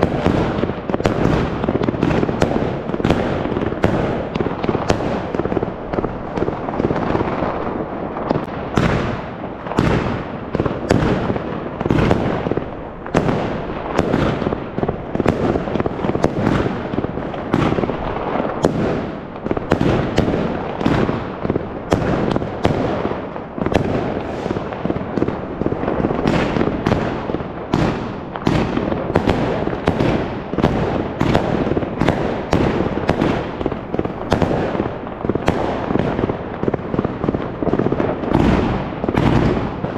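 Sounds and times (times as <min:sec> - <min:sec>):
firecrackers crackling: 0:00.0 - 0:39.9
fireworks bangs: 0:00.0 - 0:39.9.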